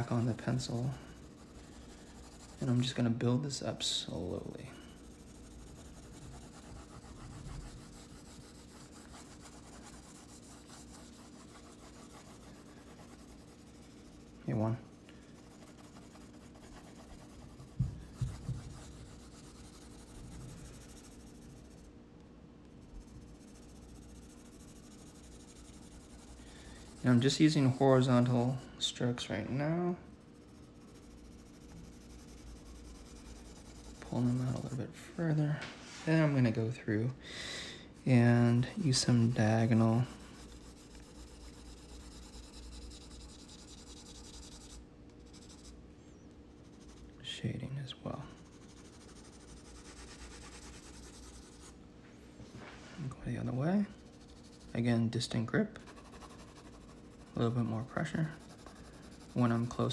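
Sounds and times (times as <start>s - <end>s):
pencil scratching on paper: 0.0s - 3.2s, 3.8s - 21.9s, 22.7s - 28.9s, 30.1s - 34.9s, 38.0s - 45.8s, 46.6s - 47.2s, 48.3s - 51.8s, 53.8s - 59.9s.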